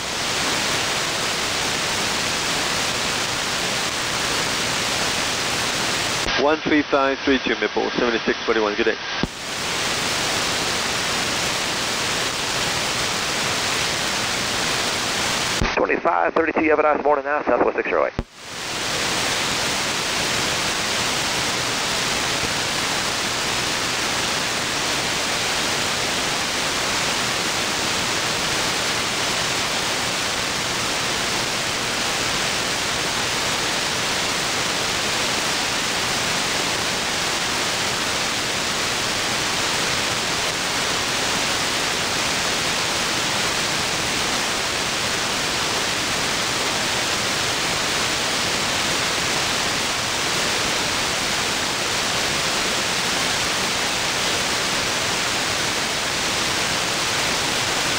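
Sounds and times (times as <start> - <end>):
radio static hiss: 0.0 - 57.9.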